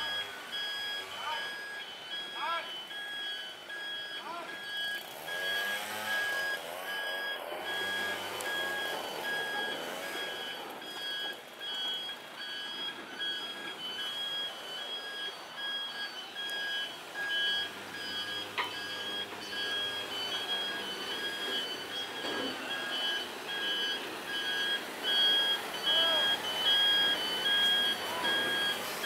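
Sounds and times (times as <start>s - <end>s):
level crossing signal beeping: 0.0s - 29.0s.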